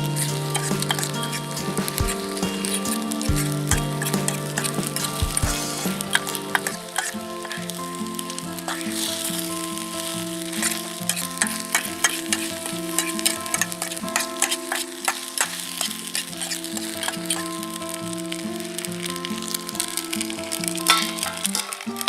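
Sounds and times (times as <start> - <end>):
background music: 0.0 - 22.0
food sizzling in a pan: 0.0 - 22.0.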